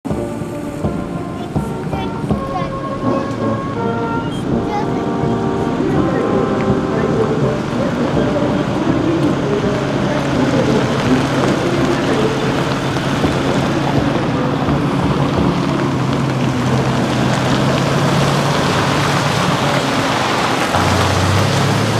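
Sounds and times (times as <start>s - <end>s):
diesel truck engines running: 0.0s - 21.9s
road and tyre noise: 0.0s - 21.9s.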